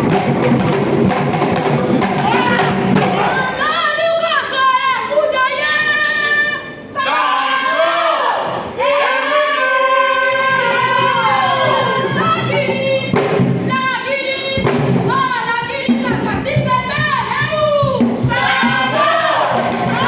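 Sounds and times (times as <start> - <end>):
group of voices singing: 1.8 - 20.0.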